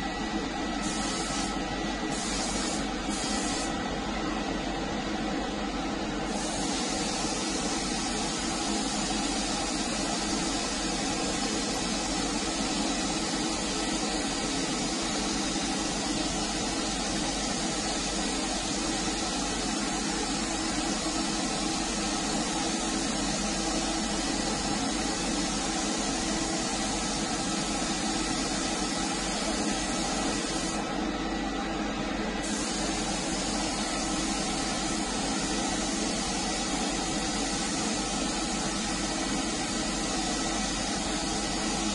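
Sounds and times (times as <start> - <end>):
spray gun hissing: 0.8 - 3.7, 6.3 - 30.9, 32.4 - 41.9.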